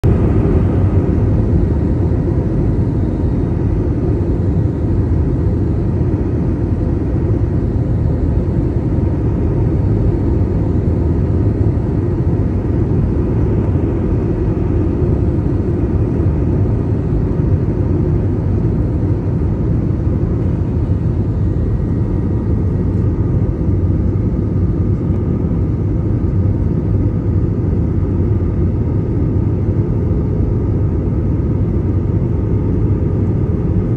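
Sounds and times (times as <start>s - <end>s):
faint steady whine: 0.0s - 33.9s
jet engines rumbling: 0.0s - 33.9s.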